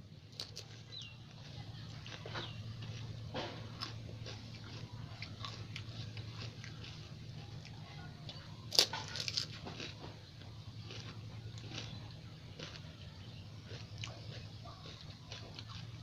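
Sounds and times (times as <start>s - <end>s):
soft chewing: 0.0s - 16.0s
crunching crisp shells: 0.2s - 16.0s.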